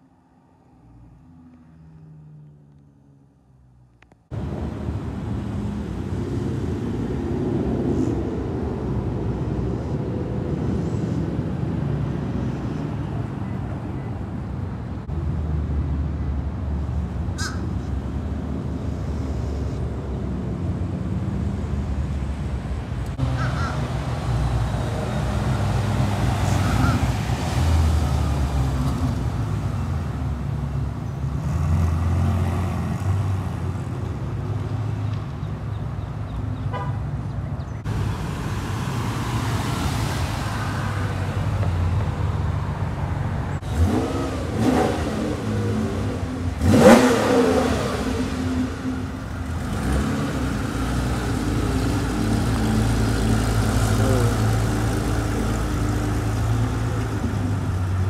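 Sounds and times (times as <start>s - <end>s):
car engines and exhausts rumbling: 0.0s - 58.0s.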